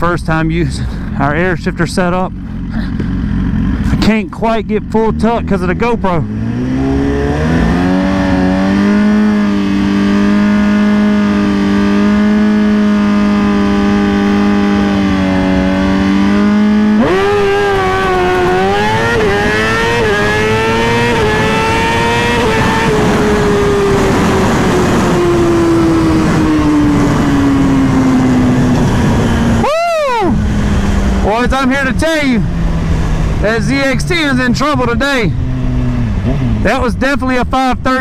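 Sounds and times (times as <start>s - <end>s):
motorcycle engine revving and upshifting: 0.9s - 38.0s.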